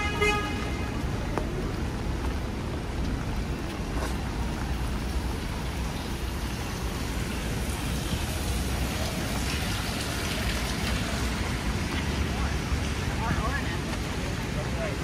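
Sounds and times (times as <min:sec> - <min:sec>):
heavy rain on umbrella: 0:00.0 - 0:15.0.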